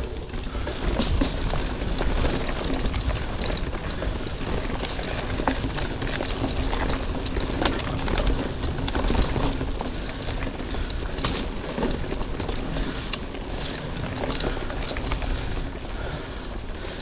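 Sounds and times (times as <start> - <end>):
bike clicks and knocks: 0.0 - 17.0
bike tyres on dirt trail: 0.0 - 17.0
wind rumble on microphone: 0.0 - 17.0.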